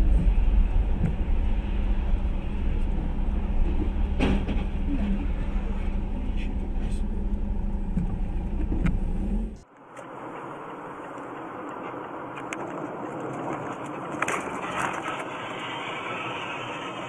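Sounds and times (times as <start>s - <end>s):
car engine rumble: 0.0s - 17.0s
road and tyre noise: 0.0s - 17.0s.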